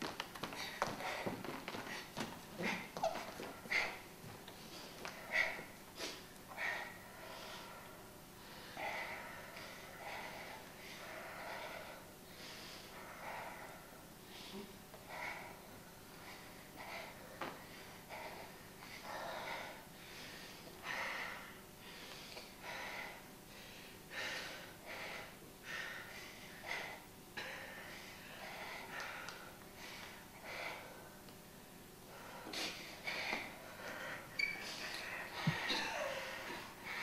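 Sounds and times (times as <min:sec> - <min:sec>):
heavy rapid breathing: 0:00.0 - 0:37.0.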